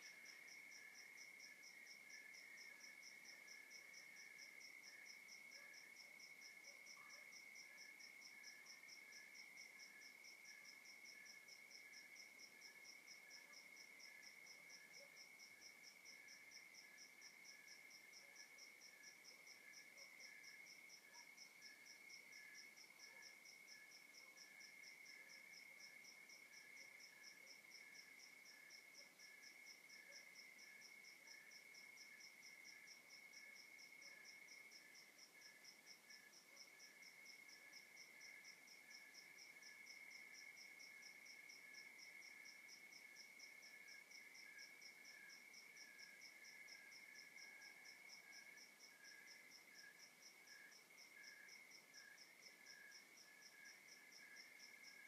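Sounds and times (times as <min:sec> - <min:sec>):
high repeating cricket chirp: 0:00.0 - 0:55.0.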